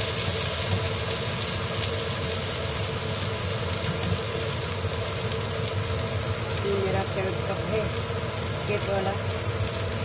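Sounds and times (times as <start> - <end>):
curry bubbling and hissing: 0.0 - 10.0
steady mechanical hum: 0.0 - 10.0.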